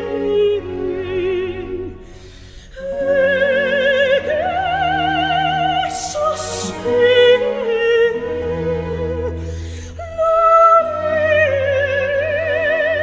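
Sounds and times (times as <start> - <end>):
operatic singing with vibrato: 0.0 - 13.0.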